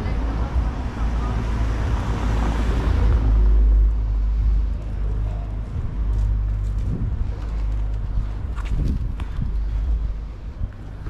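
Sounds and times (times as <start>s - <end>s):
car passing: 0.0s - 11.0s
steady low rumble: 0.0s - 11.0s.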